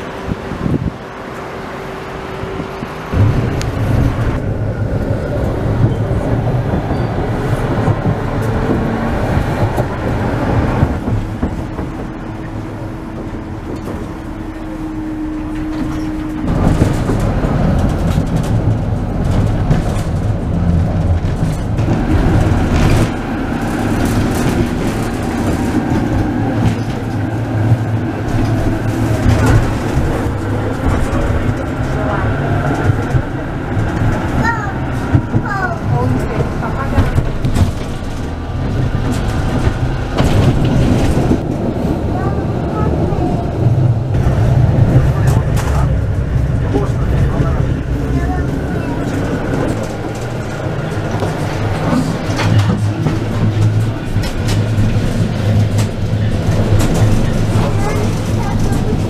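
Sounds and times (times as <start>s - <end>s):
tram rumbling over rails: 0.0s - 59.0s.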